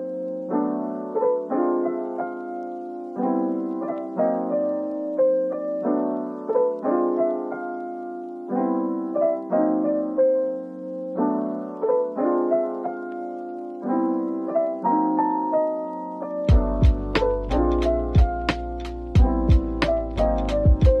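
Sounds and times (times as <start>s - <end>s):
soft solo piano: 0.0s - 21.0s.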